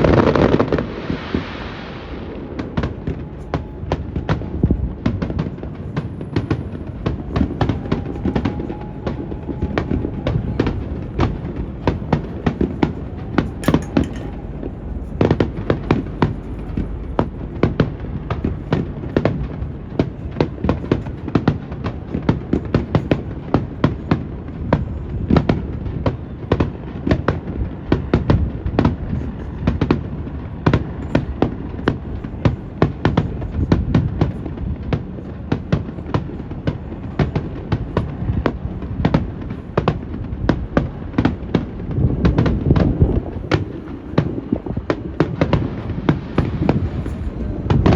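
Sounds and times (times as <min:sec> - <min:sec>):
fireworks cracking and banging: 0:00.0 - 0:47.9
wind rumble on microphone: 0:00.0 - 0:47.9.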